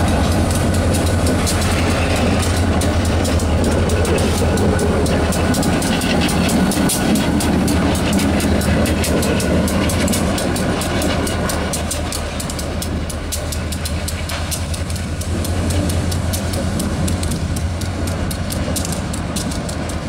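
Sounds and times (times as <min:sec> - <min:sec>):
diesel locomotive engine drone: 0:00.0 - 0:20.0
rapid even clicking: 0:00.0 - 0:20.0.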